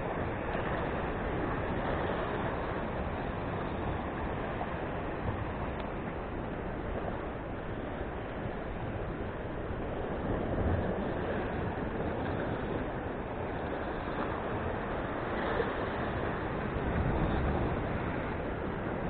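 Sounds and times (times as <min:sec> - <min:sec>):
surf breaking over rocks: 0:00.0 - 0:19.0
wind buffeting microphone: 0:00.0 - 0:19.0.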